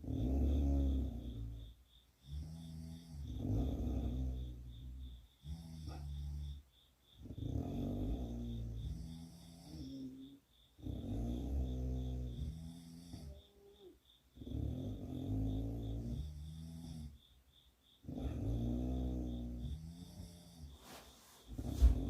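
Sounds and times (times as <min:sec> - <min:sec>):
girl snoring: 0:00.0 - 0:06.6, 0:07.2 - 0:17.2, 0:18.0 - 0:22.0.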